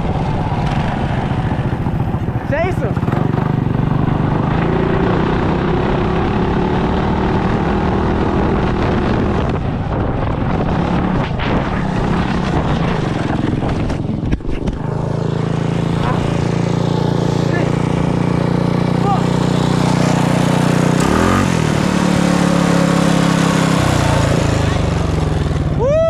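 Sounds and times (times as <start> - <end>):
mini bike engine revving: 0.0 - 26.0.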